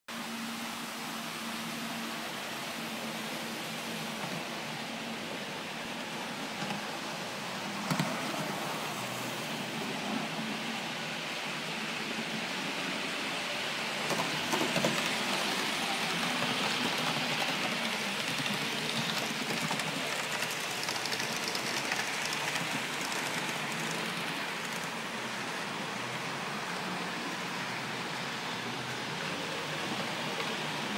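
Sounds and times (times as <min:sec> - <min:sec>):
model trains rolling hiss: 0:00.2 - 0:30.9.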